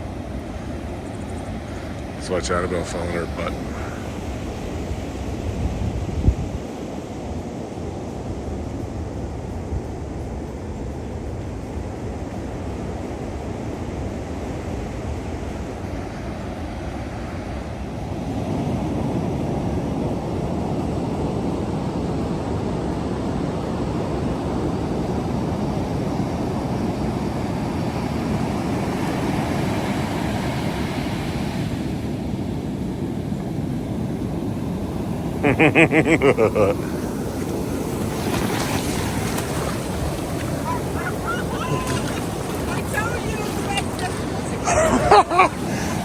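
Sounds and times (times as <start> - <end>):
ocean surf breaking: 0.0 - 7.9, 12.4 - 46.0
wind on microphone: 3.0 - 46.0.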